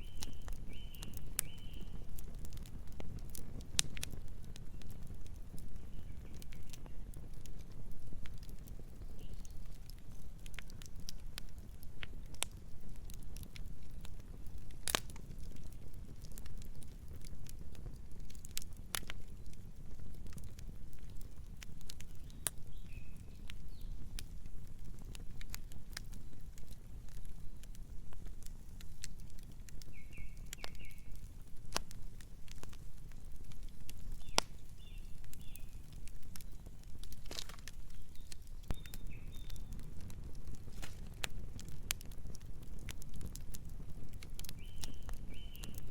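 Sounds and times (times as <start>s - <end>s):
campfire flames rumbling: 0.0s - 45.9s
fire crackles and snaps: 0.0s - 45.9s
fire pop: 0.0s - 45.9s.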